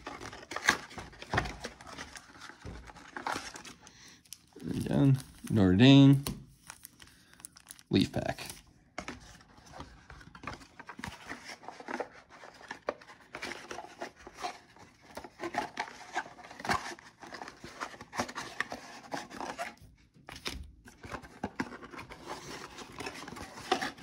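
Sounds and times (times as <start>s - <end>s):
packaging and cards rustling: 0.0s - 24.0s.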